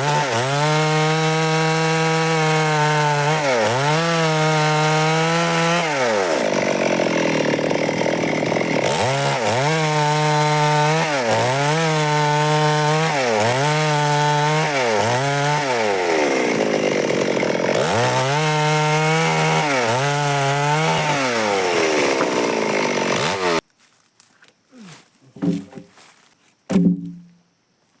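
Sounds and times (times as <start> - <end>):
chainsaw cutting wood: 0.0 - 23.6.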